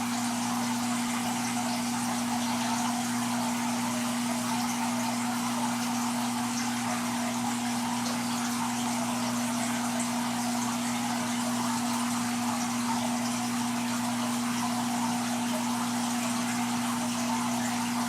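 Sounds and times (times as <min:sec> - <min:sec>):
aquarium pump humming: 0:00.0 - 0:18.0
circulating water hissing: 0:00.0 - 0:18.0.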